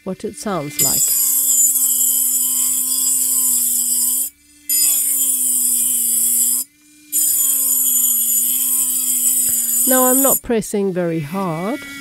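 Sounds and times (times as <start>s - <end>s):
engraving pen motor whine: 0.0s - 10.5s, 11.3s - 12.0s.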